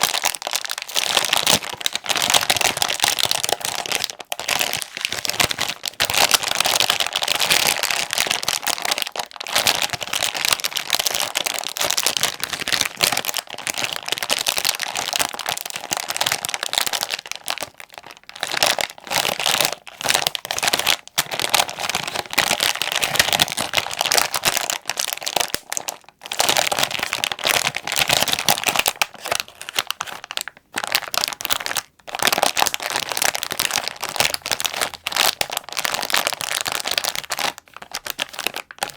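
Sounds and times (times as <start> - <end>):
plastic wrapper crinkling: 0.0 - 38.9.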